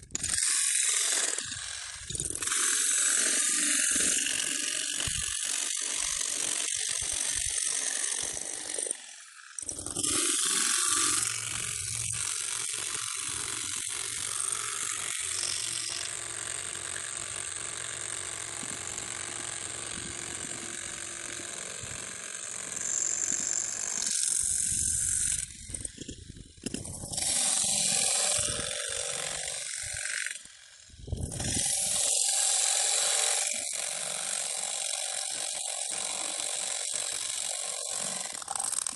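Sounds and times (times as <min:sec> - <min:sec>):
jackhammer pounding concrete: 0:00.0 - 0:38.9.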